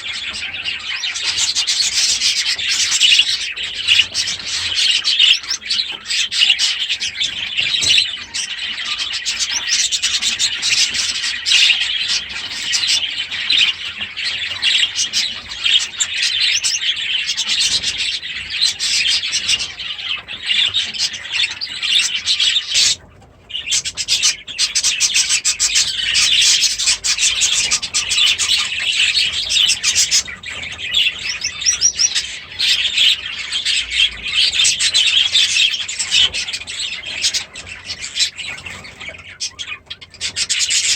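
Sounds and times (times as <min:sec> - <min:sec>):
caged birds chattering and chirping: 0:00.0 - 0:40.9.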